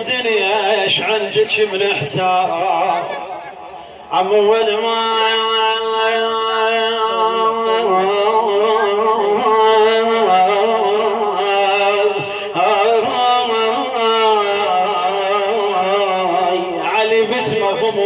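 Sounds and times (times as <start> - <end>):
man singing devotional chant: 0.0 - 3.3, 4.0 - 18.0.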